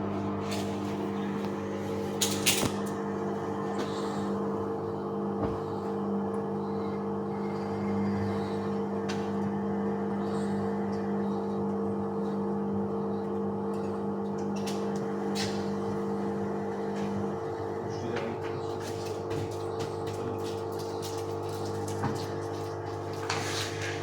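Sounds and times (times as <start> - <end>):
washing machine hum: 0.0 - 24.0.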